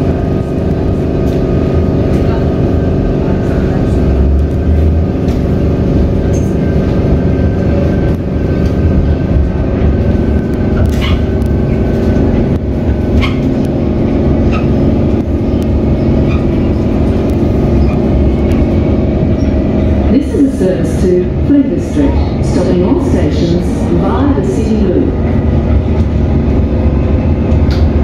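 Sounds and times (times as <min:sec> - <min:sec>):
train rumble and hum: 0:00.0 - 0:28.0.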